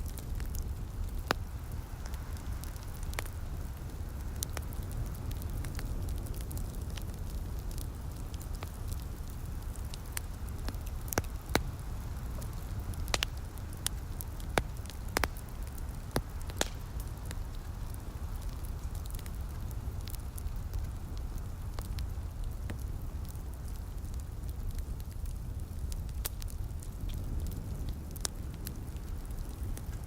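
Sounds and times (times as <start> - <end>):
fire low rumble: 0.0 - 30.0
wood fire crackling: 0.0 - 30.0.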